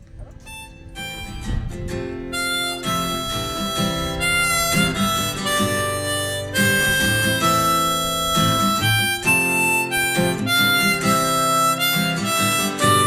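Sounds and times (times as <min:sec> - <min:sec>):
guitar accompaniment: 0:00.0 - 0:13.0
harmonica melody: 0:00.0 - 0:13.0.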